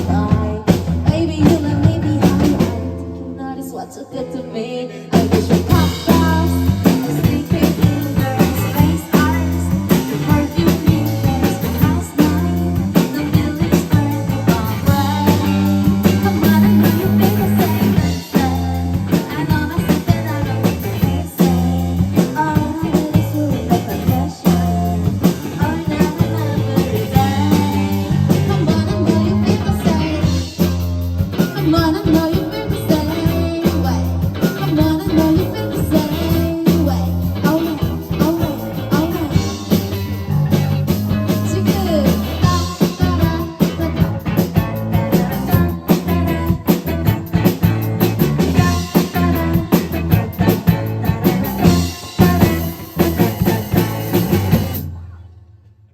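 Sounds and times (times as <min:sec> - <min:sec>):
drum kit steady beat: 0:00.0 - 0:03.0, 0:05.1 - 0:55.0
rock band playing: 0:00.0 - 0:03.5, 0:04.4 - 0:55.1.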